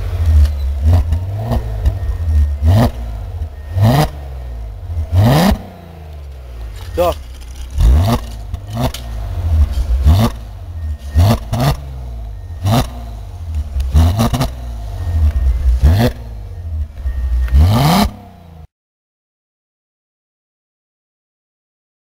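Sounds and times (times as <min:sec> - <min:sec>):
car engine idling: 0:00.0 - 0:18.6
engine throttle blips: 0:00.0 - 0:18.7.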